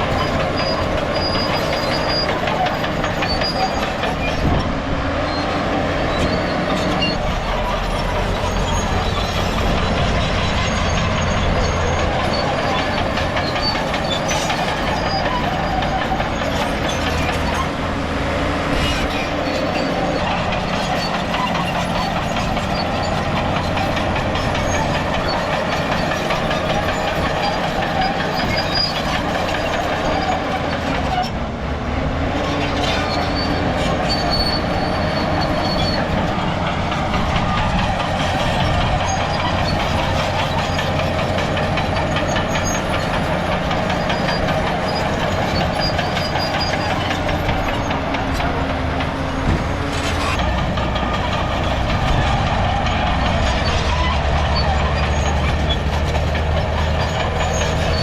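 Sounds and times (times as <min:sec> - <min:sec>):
diesel engine running: 0:00.0 - 0:58.0
steel tracks clanking and squealing: 0:00.0 - 0:58.0.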